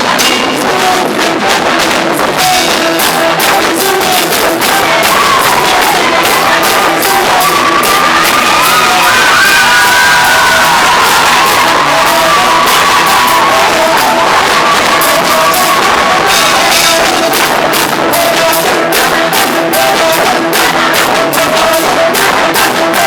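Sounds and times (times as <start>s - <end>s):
live praise band playing: 0.0s - 23.0s
steady drum beat: 0.0s - 23.0s
voices singing and shouting: 0.0s - 23.0s.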